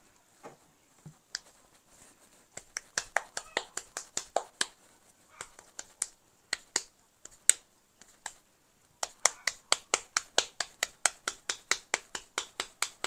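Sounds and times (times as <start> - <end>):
hands patting dough: 0.4 - 13.0.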